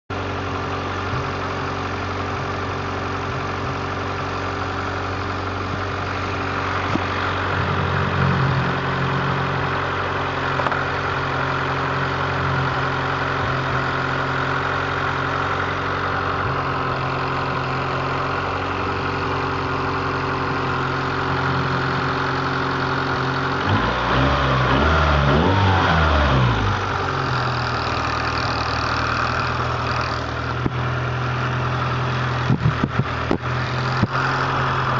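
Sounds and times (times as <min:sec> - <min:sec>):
car engine idling with whine: 0:00.1 - 0:34.9
engine revving: 0:06.1 - 0:34.9.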